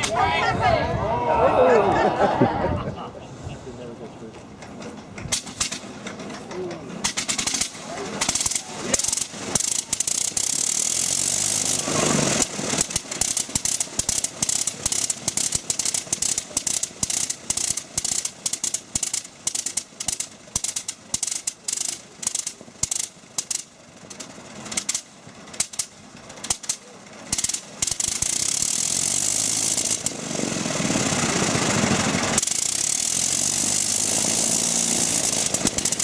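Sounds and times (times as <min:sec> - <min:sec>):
radial aircraft engine popping: 0:03.0 - 0:36.0.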